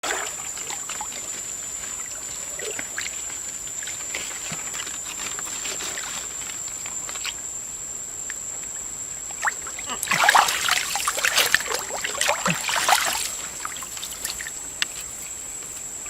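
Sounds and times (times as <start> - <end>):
water splashing and trickling: 0.0 - 7.4, 8.7 - 16.0.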